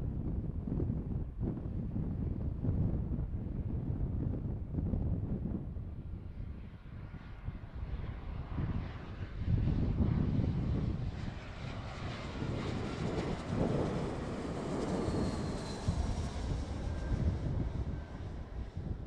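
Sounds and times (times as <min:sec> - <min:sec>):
airliner engines rumbling: 0:00.0 - 0:19.0.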